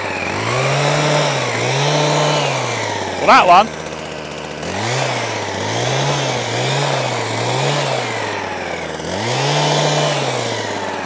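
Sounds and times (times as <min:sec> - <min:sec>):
hedge trimmer engine revving: 0:00.0 - 0:11.0.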